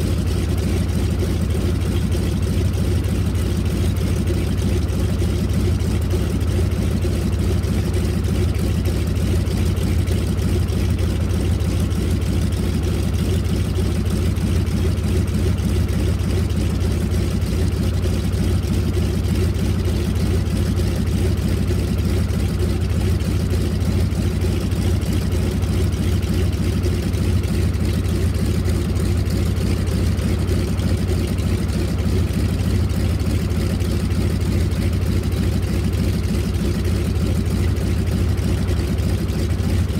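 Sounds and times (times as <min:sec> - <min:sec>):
radial engine idling: 0:00.0 - 0:39.9.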